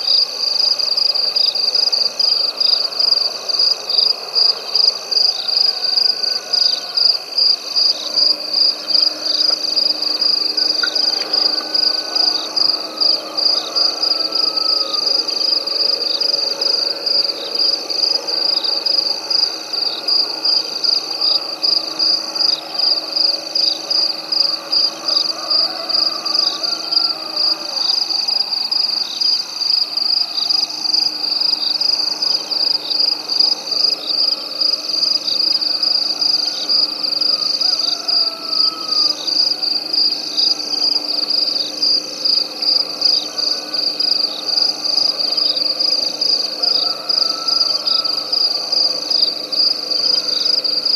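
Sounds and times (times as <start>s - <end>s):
pulsing frog call: 0.0s - 50.9s.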